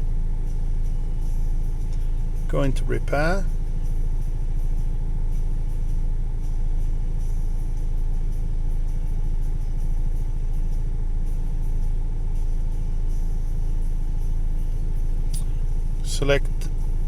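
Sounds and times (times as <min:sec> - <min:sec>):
car engine idling: 0:00.0 - 0:17.0
faint constant hum: 0:00.0 - 0:17.0.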